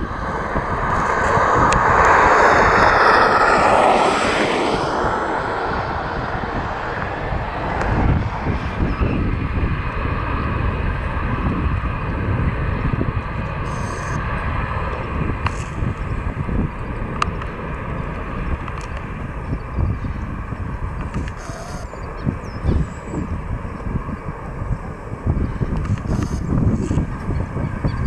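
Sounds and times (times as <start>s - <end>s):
airplane engines at takeoff: 0.0s - 28.0s.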